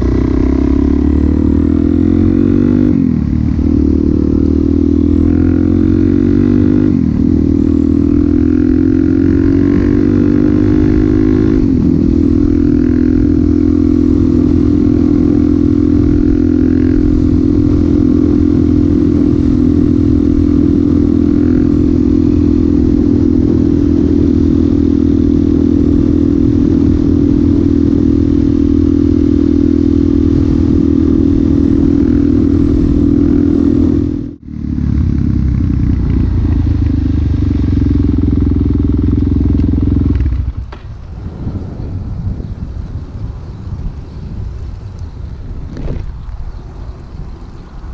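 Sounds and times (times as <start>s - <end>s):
motorcycle engine accelerating: 0.0s - 46.3s.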